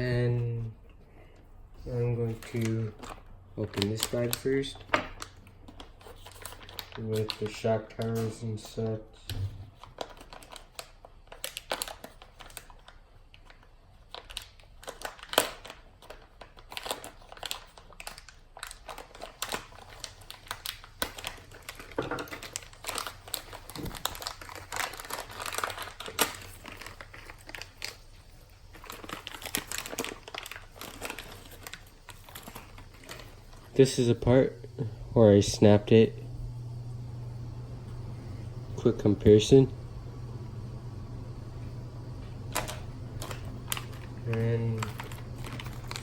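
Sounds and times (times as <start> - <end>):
plastic bag crinkling: 1.8 - 9.0, 9.6 - 35.8, 42.3 - 46.0.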